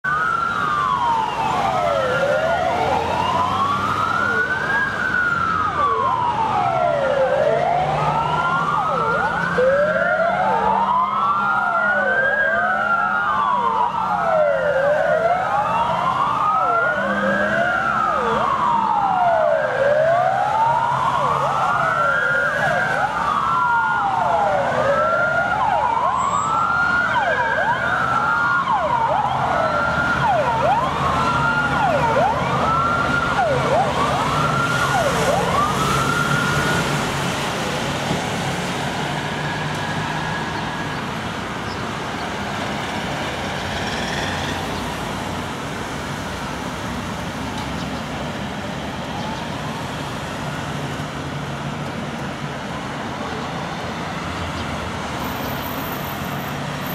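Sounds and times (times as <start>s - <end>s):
fire engine siren wailing: 0.0s - 56.9s.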